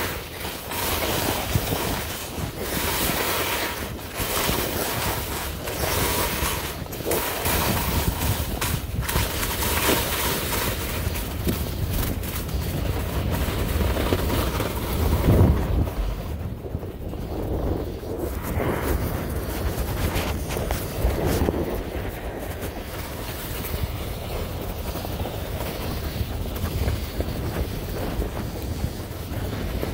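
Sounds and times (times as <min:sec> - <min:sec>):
skis hissing on snow: 0:00.0 - 0:16.3, 0:17.0 - 0:29.9
wind buffeting microphone: 0:00.0 - 0:29.9.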